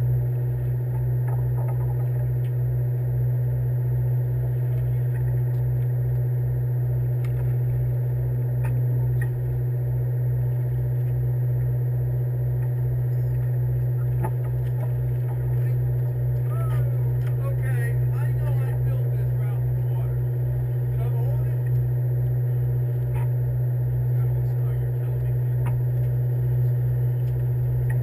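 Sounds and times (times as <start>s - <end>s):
boat engine idling: 0.0s - 28.0s.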